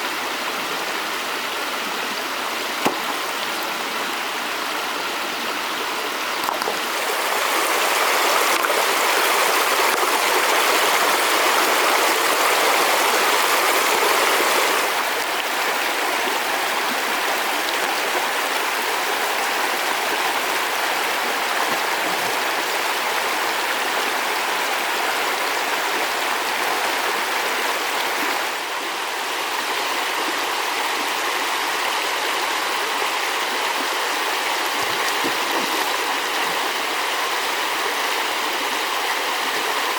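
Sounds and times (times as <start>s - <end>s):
water rushing: 0.3s - 39.9s.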